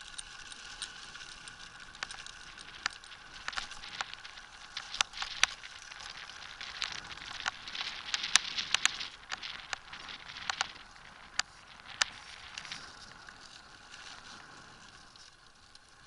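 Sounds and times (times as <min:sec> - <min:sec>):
wheels and wind hissing: 0:00.0 - 0:16.0.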